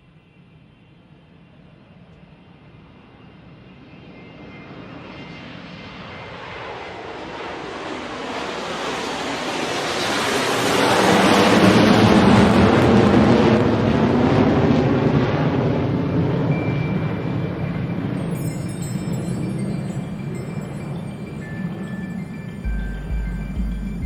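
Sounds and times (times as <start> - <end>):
rushing airplane-like noise: 2.9 - 24.0.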